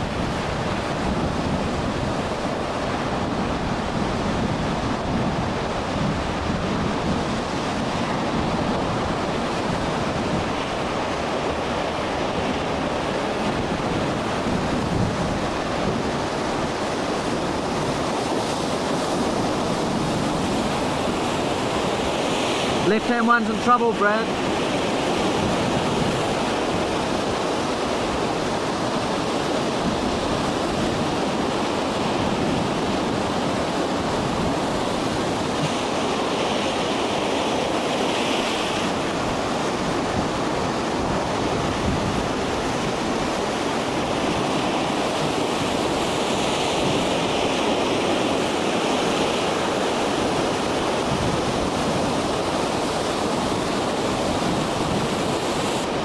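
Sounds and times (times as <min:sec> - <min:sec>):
heavy surf breaking: 0:00.0 - 0:56.0
wind on microphone: 0:00.0 - 0:56.0.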